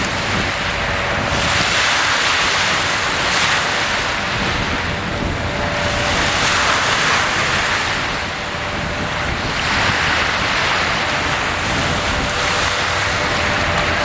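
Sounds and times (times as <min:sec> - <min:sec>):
sea waves breaking: 0:00.0 - 0:14.0.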